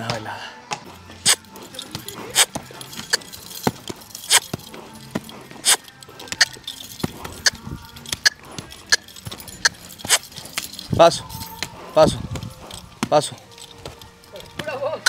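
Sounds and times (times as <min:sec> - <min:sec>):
horse hoofbeats: 0:00.0 - 0:15.0
light metallic jingling: 0:01.0 - 0:15.0.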